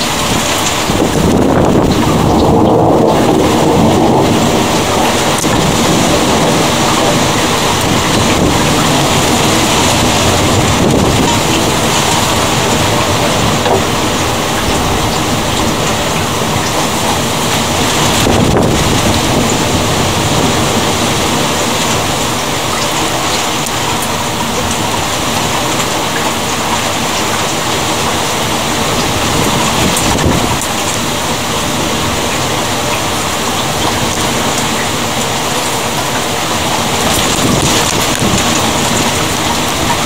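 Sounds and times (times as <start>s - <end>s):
rain falling steadily: 0.0s - 40.0s.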